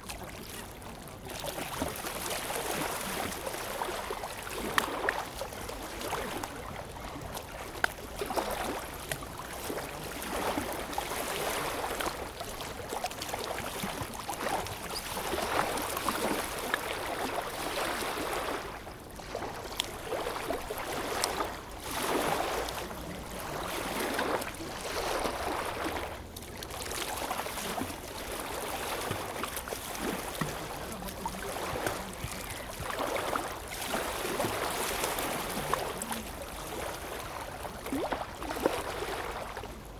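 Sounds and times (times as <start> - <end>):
lake waves lapping on shore: 0.0 - 39.9.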